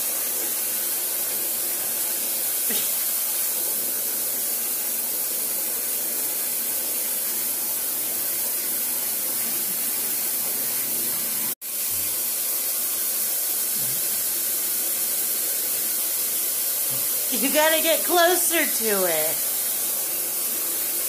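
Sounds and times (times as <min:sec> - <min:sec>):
faucet water pouring into tub: 0:00.0 - 0:21.0.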